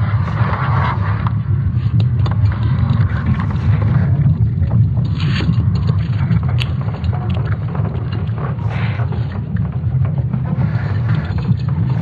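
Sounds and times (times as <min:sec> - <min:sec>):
dense low rumble: 0:00.0 - 0:12.0
scattered crackles: 0:00.0 - 0:12.0.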